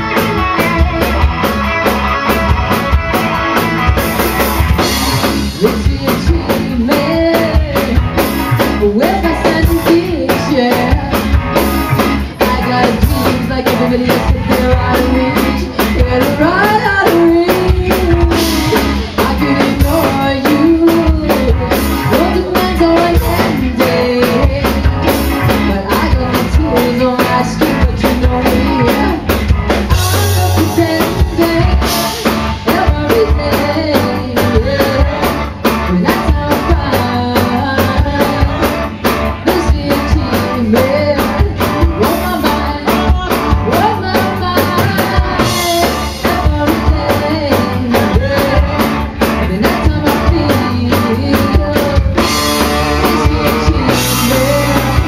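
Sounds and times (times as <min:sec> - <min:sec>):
live rock band playing: 0:00.0 - 0:55.0
woman singing lead: 0:00.0 - 0:55.0.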